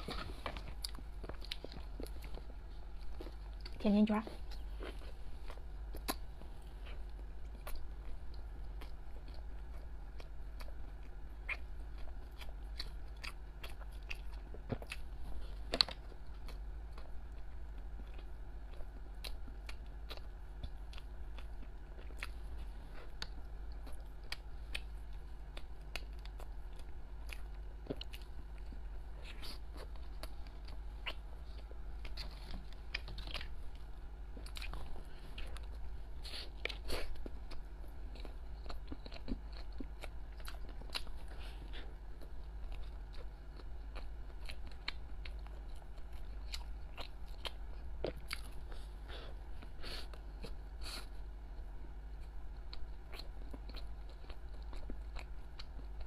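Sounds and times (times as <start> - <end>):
biting and chewing doughnuts: 0.0 - 56.0
steady low hum: 0.0 - 56.0.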